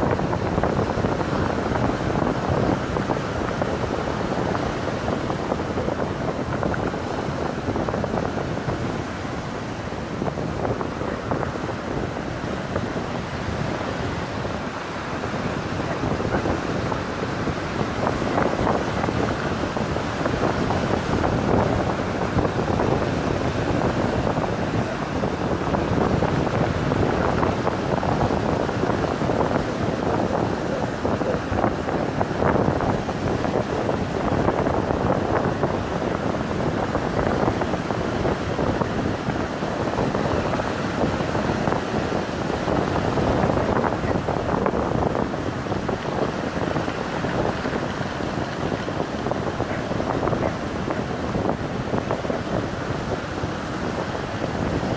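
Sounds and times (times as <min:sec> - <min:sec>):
wind blowing on microphone: 0:00.0 - 0:54.9.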